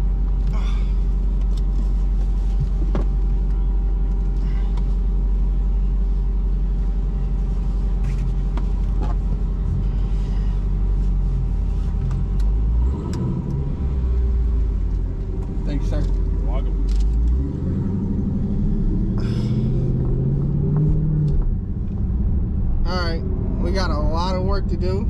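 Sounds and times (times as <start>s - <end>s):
car engine and tyres drone: 0.0s - 25.0s.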